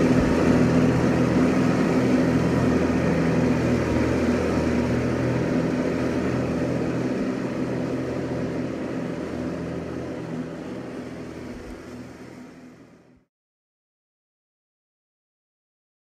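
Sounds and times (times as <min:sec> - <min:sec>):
diesel lawn tractor mowing: 0:00.0 - 0:13.2.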